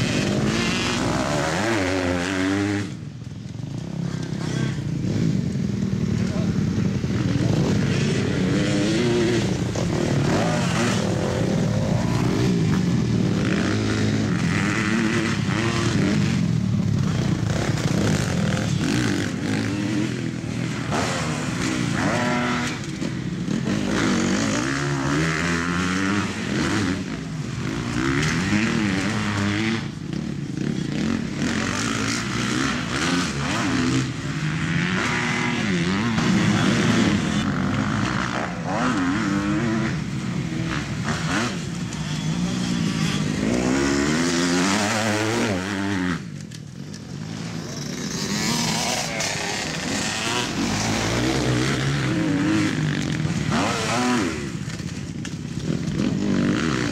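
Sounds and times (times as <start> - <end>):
dirt bike engines revving: 0.0 - 56.9.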